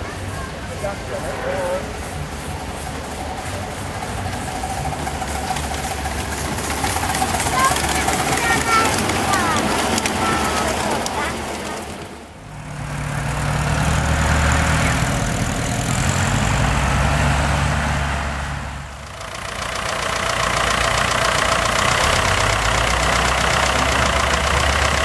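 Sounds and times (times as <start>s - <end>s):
jeep engine driving off: 0.0s - 25.0s
tractor engine idling: 0.0s - 25.0s.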